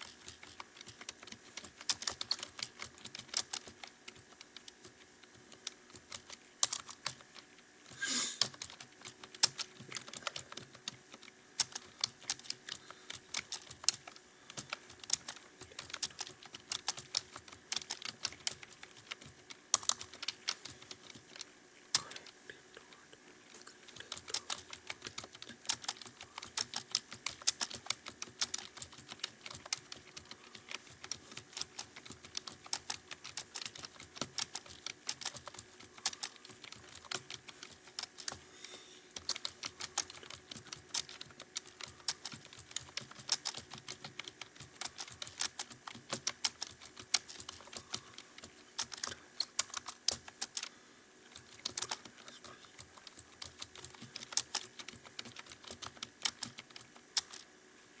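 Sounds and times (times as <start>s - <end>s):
fast typing on a keyboard: 0.0s - 38.5s, 39.1s - 57.6s.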